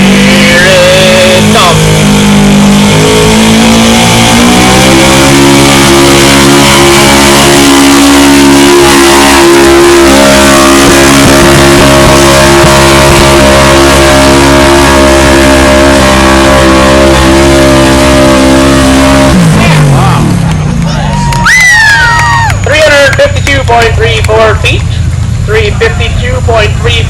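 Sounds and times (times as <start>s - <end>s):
truck engine at high revs: 0.0s - 27.0s.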